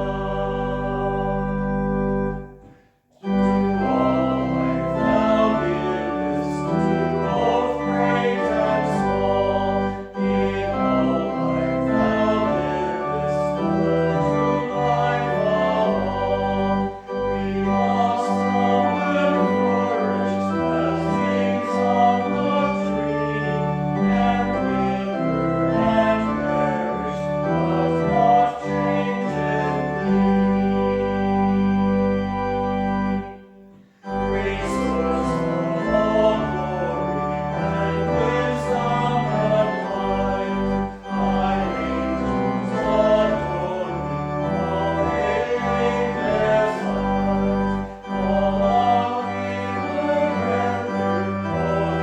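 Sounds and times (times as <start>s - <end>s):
organ playing held chords: 0.0s - 52.0s.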